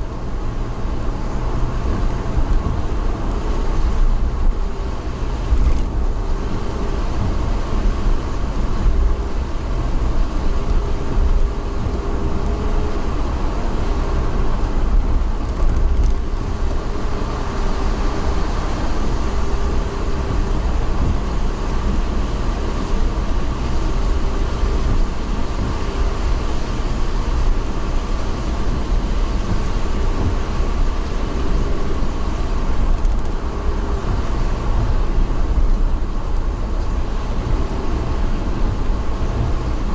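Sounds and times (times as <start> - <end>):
vehicle running drone: 0.0 - 39.9.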